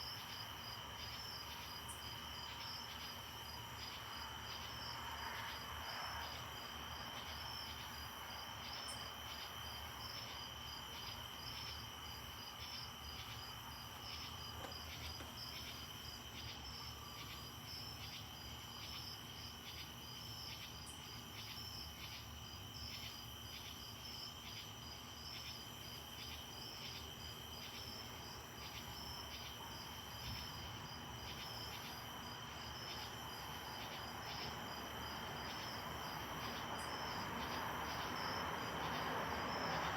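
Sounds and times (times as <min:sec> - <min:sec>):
crickets trilling: 0:00.0 - 0:39.9
pulsed cricket chirp: 0:00.0 - 0:39.9.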